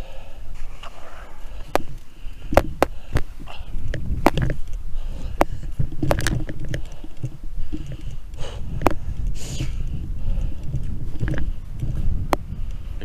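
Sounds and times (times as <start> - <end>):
rumble of wind and tyres: 0.0 - 13.0
bike clicks and knocks: 1.5 - 12.8.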